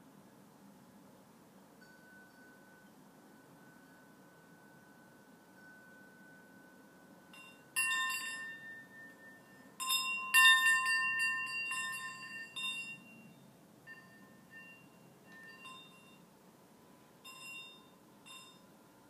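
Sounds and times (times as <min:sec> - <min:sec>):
small cowbells ringing: 0:01.8 - 0:16.4, 0:17.2 - 0:18.9.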